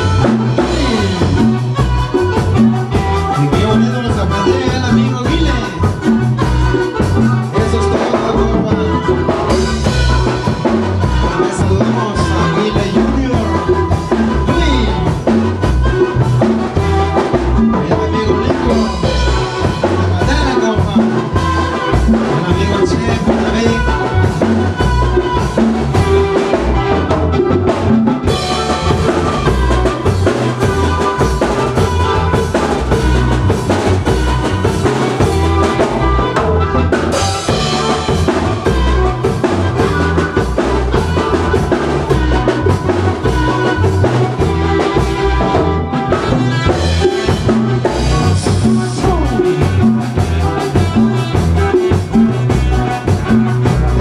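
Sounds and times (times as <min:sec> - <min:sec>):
band playing melody: 0:00.0 - 0:54.0
drum kit beat: 0:00.0 - 0:54.0.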